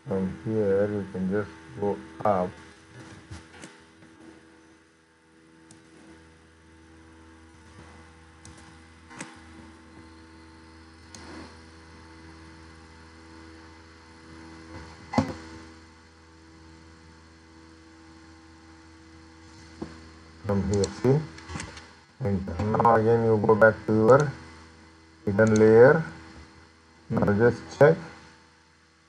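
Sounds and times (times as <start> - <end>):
steady hum with tones: 0.0 - 29.0.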